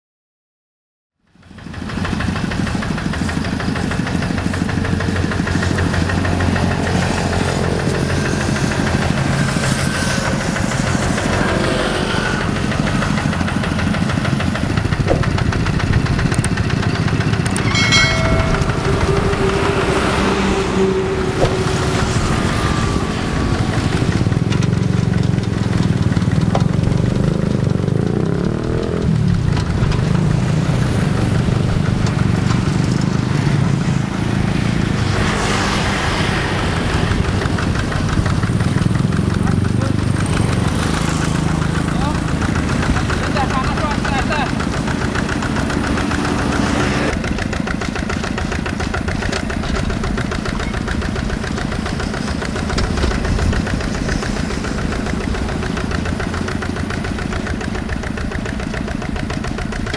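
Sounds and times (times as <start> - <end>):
diesel tractor engine running: 1.3 - 59.9.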